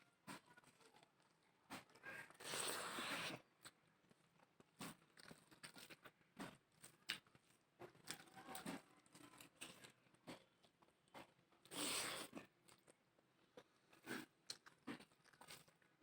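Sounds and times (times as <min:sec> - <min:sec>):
soft crunching: 0:00.2 - 0:16.0
person chewing: 0:02.1 - 0:16.0.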